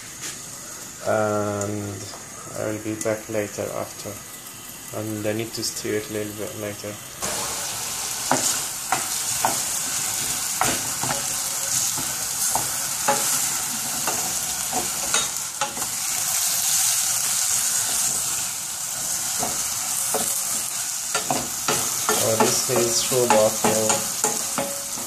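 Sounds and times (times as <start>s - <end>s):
chicken and onions sizzling: 0.0s - 25.0s.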